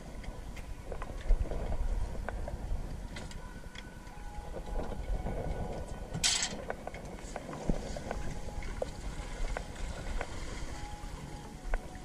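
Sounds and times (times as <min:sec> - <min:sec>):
water washing against a hull: 0:00.0 - 0:12.0
wind rumbling on microphone: 0:00.0 - 0:12.0.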